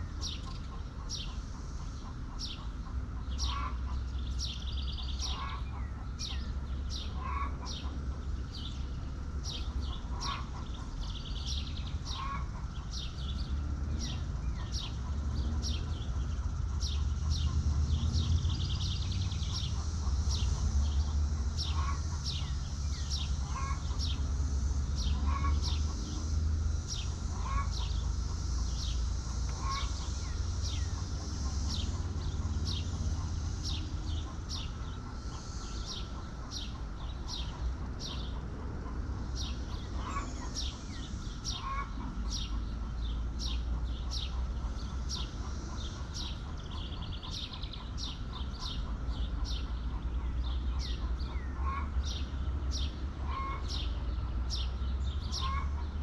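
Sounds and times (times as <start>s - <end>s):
birds chirping: 0.0s - 56.0s
chickens clucking: 0.0s - 56.0s.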